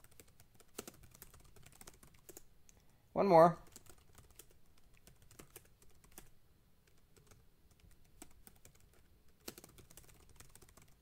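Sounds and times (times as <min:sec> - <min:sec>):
typing on computer keyboard: 0:00.0 - 0:02.5, 0:03.6 - 0:11.0.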